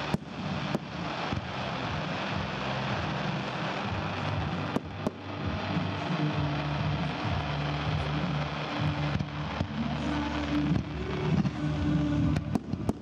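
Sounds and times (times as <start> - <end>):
fireworks bursting with bangs: 0.0 - 13.0
steady hiss: 0.0 - 13.0.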